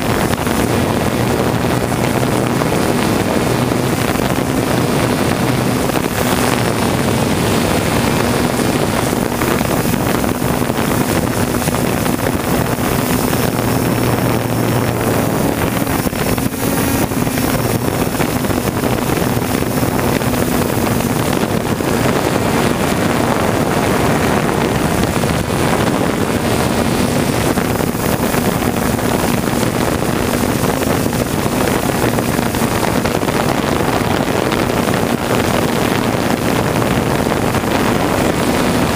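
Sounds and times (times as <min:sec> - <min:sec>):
drone propellers whirring: 0:00.0 - 0:38.9
wind noise: 0:00.0 - 0:38.9.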